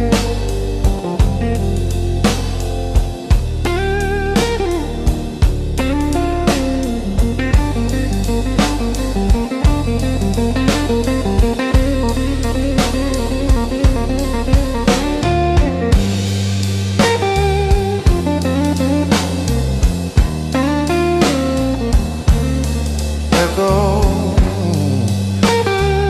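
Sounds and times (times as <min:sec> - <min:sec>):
bass: 0:00.0 - 0:26.0
drum kit beat: 0:00.0 - 0:26.0
electric guitar melody: 0:00.0 - 0:26.0.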